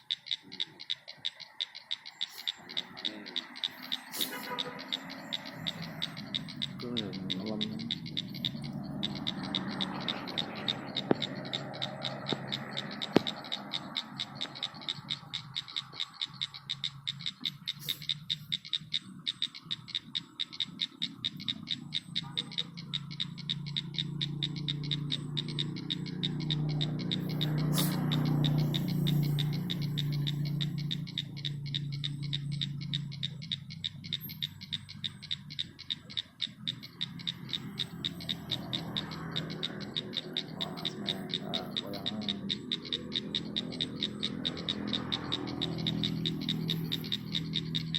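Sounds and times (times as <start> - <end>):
rapid high-pitched animal chirps: 0.0 - 47.9
sharp clicks: 0.0 - 47.9.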